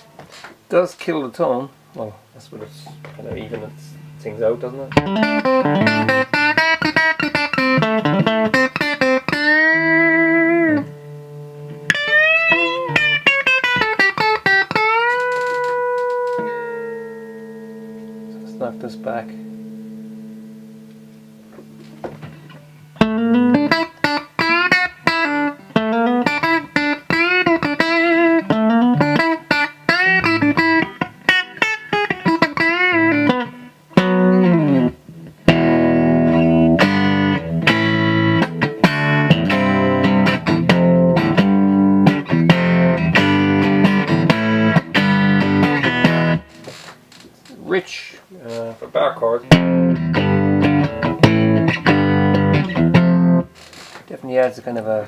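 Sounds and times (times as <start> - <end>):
electric guitar playing: 0.0 - 0.7, 1.8 - 47.3, 47.9 - 53.9.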